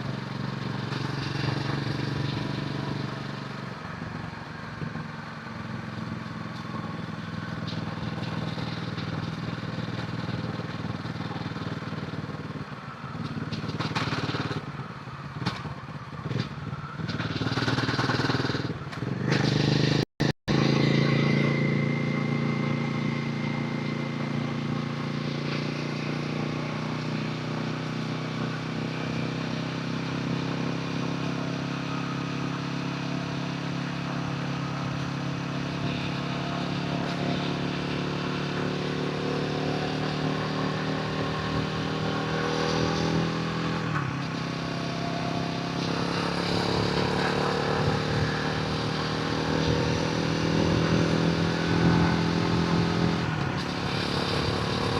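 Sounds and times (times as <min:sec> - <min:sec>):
motorcycle engine and exhaust: 0:00.0 - 0:54.9.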